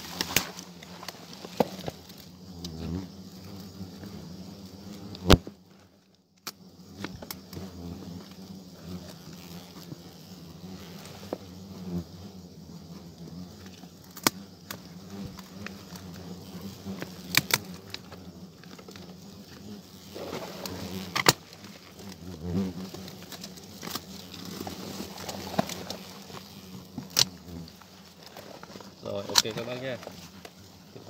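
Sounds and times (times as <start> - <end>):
hornets buzzing: 0.0 - 5.7, 6.4 - 31.0.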